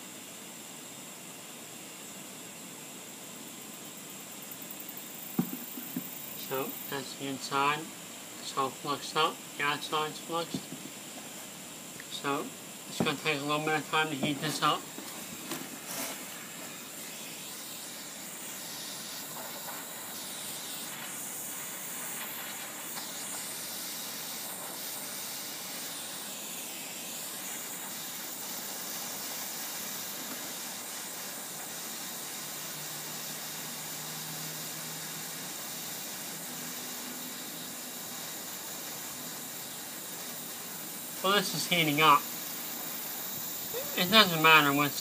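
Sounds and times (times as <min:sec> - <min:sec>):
propane torch hissing: 0:00.0 - 0:45.0.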